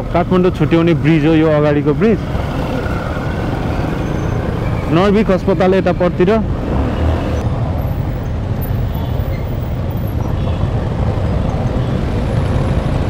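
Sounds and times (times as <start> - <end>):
traffic: 0.0 - 13.0.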